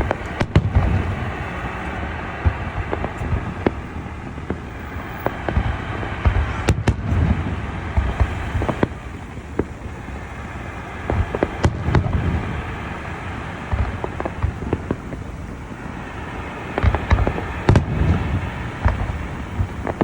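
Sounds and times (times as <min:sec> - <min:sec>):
fireworks cracks and bangs: 0:00.0 - 0:20.0
fireworks rumble: 0:00.0 - 0:20.0.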